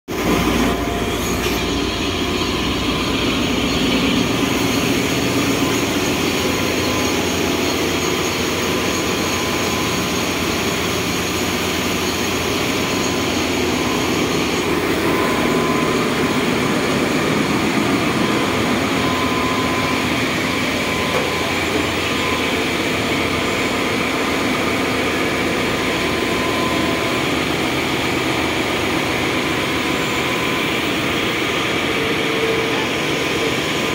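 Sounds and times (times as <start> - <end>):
engine room machinery drone: 0.1 - 33.9.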